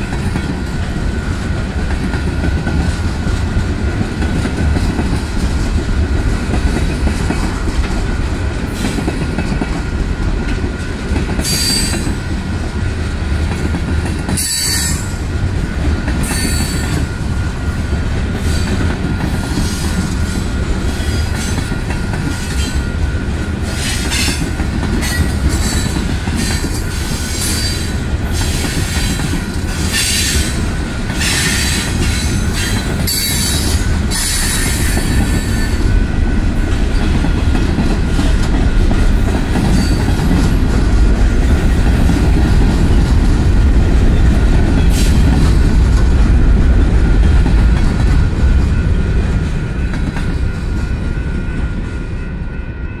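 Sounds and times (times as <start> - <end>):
train wheels clattering over rails: 0.0 - 51.9
freight train rumbling past: 0.0 - 53.0.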